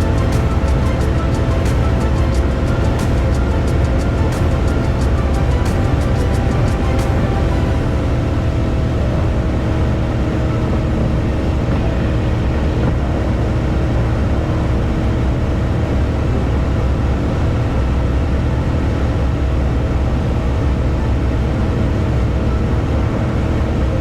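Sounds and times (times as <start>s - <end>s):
car engine drone: 0.0s - 24.0s
road rumble: 0.0s - 24.0s.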